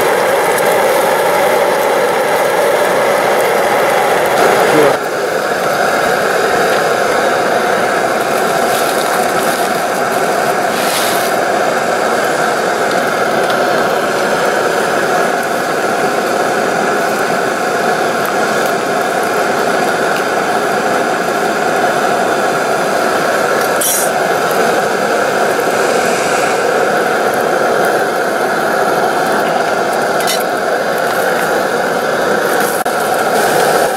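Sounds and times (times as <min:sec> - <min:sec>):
camp stove burner hissing: 0:00.0 - 0:33.9.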